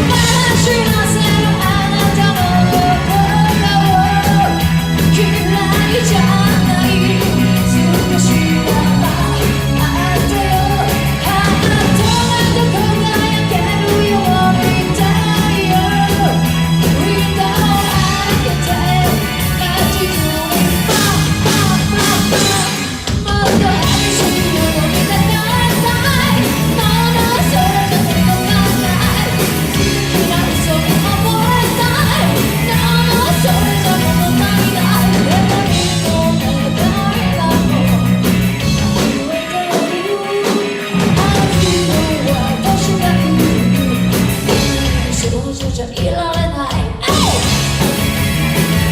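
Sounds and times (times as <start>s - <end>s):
person singing: 0.0s - 47.8s
live rock band playing: 0.0s - 48.9s.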